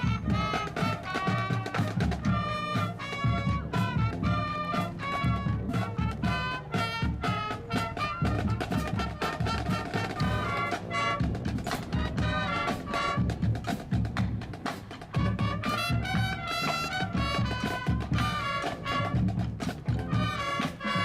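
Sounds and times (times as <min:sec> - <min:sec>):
drum kit beat: 0:00.0 - 0:21.0
swing band with brass: 0:00.0 - 0:21.0.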